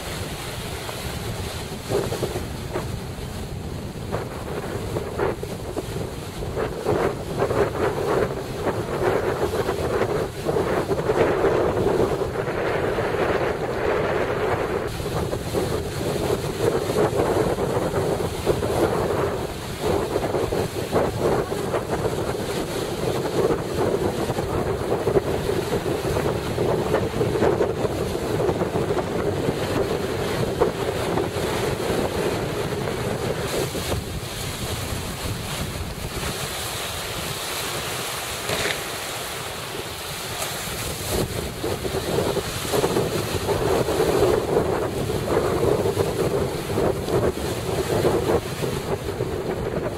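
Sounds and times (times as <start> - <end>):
sea surf rushing: 0.0 - 49.9
wind buffeting microphone: 0.0 - 49.9.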